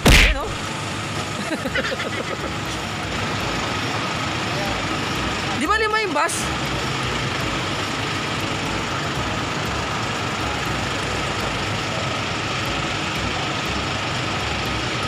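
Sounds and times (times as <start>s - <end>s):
minibus engine idling: 0.0s - 15.0s.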